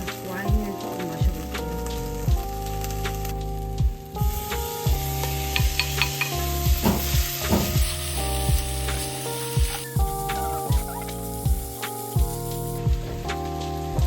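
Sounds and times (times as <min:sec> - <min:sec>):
food sizzling in a pan: 0:00.0 - 0:03.4, 0:04.0 - 0:12.9
music with steady beat: 0:00.0 - 0:14.0.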